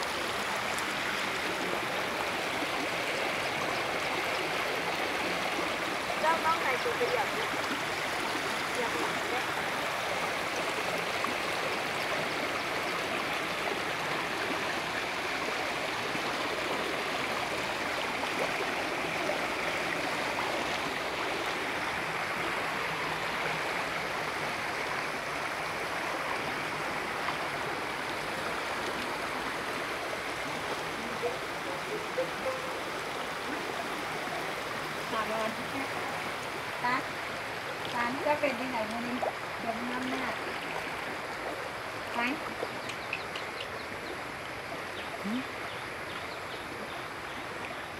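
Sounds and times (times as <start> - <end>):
rushing floodwater: 0.0 - 47.9.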